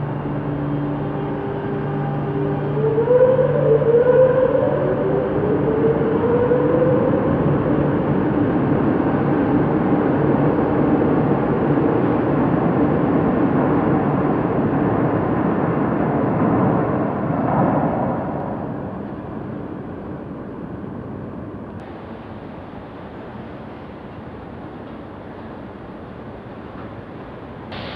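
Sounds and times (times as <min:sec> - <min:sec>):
train wheels rumbling on rails: 0:04.5 - 0:27.9.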